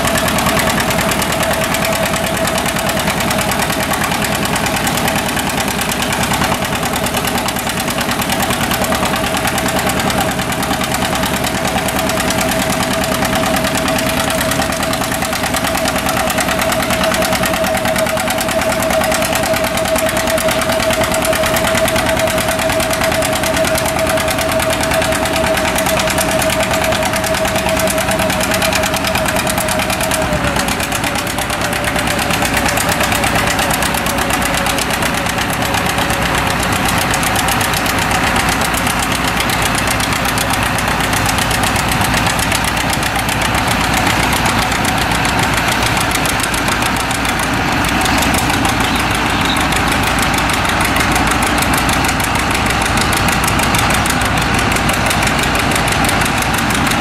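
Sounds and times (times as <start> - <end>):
steady whine: 0.0 - 57.0
tractor engine under load: 0.0 - 57.0.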